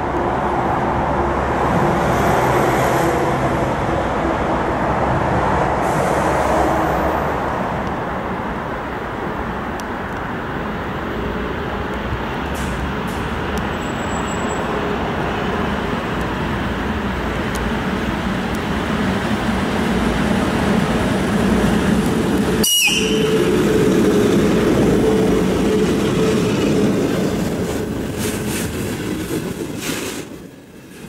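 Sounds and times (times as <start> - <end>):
locomotive hum: 0.0 - 30.9
freight train rumbling past: 0.0 - 31.0.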